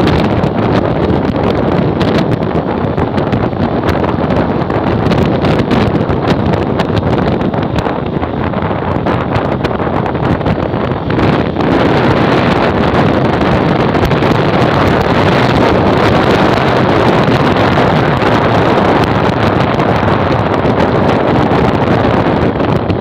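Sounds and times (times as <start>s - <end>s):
motorcycle running: 0.0s - 23.0s
wind buffeting microphone: 0.0s - 23.0s.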